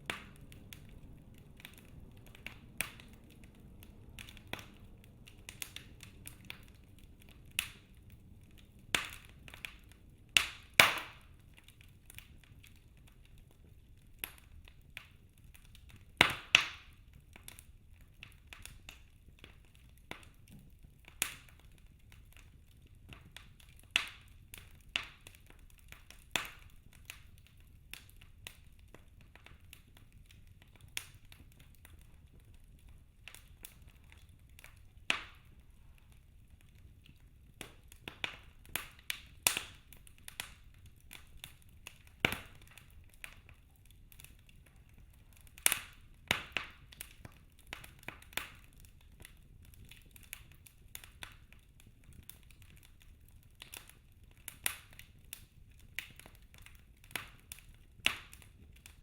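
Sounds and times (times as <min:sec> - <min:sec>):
low steady hiss: 0:00.0 - 0:59.0
wood fire crackling and popping: 0:00.0 - 0:59.0.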